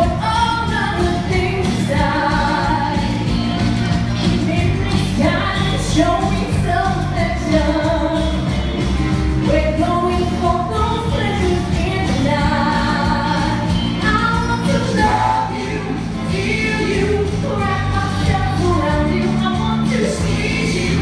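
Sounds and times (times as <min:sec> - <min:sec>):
person singing into a microphone: 0:00.0 - 0:03.4, 0:04.2 - 0:08.5, 0:09.4 - 0:21.0
pop music with steady beat: 0:00.0 - 0:21.0.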